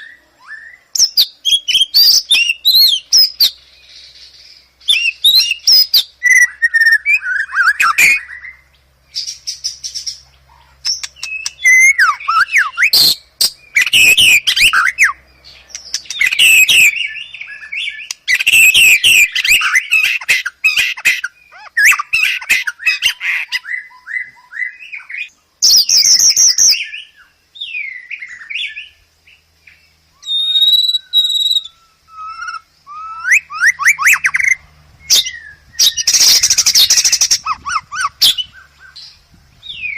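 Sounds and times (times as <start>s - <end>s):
songbird whistling and trilling: 0.0s - 39.9s.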